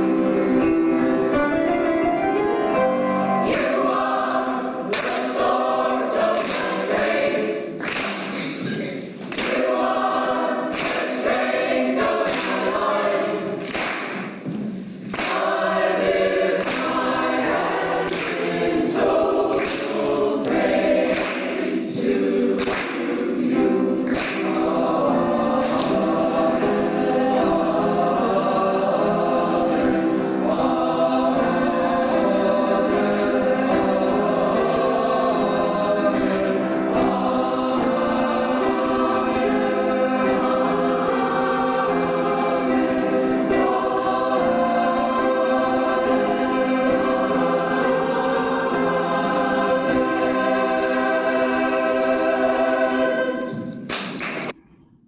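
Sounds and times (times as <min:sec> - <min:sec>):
mixed choir singing: 0:00.0 - 0:53.9.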